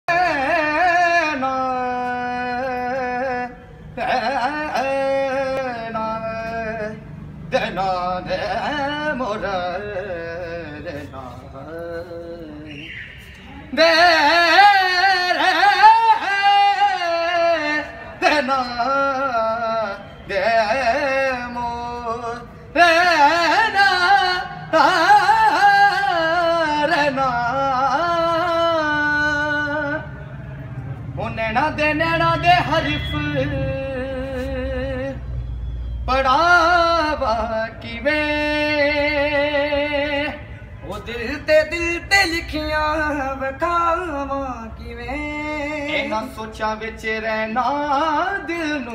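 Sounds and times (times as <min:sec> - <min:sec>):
man singing unaccompanied: 0:00.0 - 0:12.8, 0:13.7 - 0:30.2, 0:31.2 - 0:35.2, 0:36.1 - 0:48.9.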